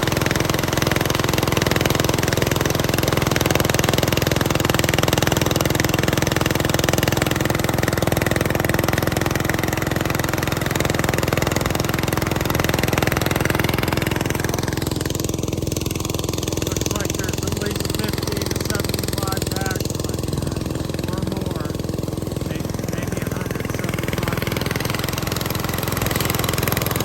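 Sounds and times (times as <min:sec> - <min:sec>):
corn sheller engine droning: 0:00.0 - 0:27.0.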